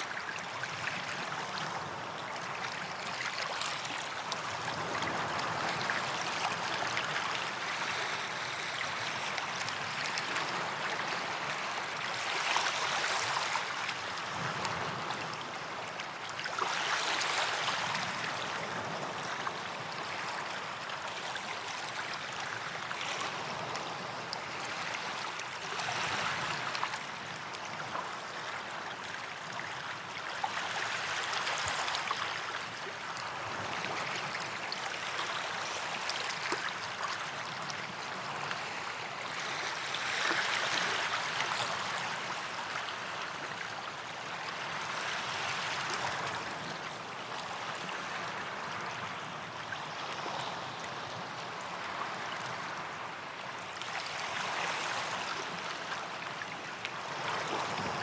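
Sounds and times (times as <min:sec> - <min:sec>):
small waves breaking on sand: 0:00.0 - 0:58.0.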